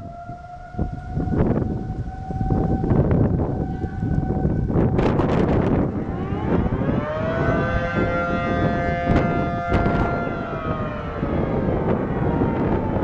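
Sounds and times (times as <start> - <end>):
loud rumbling noise: 0.0 - 13.0
lower siren tone: 0.0 - 13.0
steady siren tone: 0.0 - 13.0
warning siren winding up: 0.0 - 13.0.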